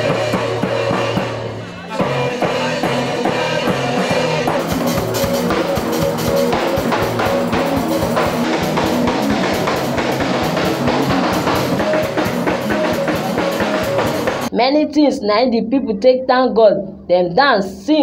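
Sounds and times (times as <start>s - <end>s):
drum-kit beat: 0.0s - 14.6s
guitar: 0.0s - 14.6s.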